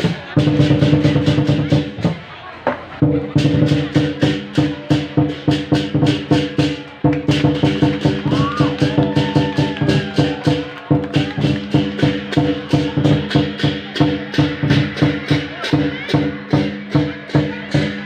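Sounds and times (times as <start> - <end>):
percussion ensemble playing: 0.0 - 18.0.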